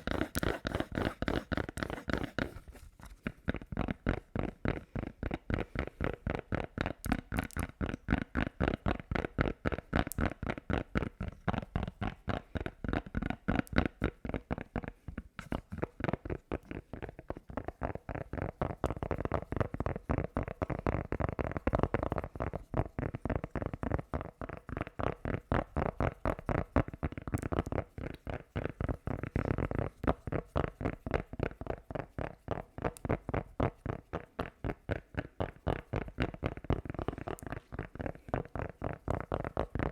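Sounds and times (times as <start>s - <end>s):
rapid rhythmic stroking sounds: 0.0s - 39.9s.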